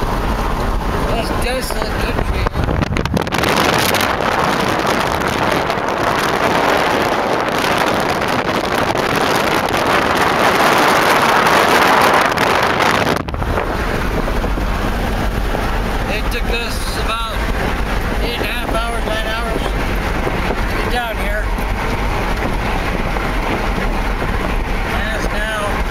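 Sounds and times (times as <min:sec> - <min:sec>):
car cabin road rumble: 0:00.0 - 0:25.9
wind rushing past car window: 0:00.0 - 0:25.9.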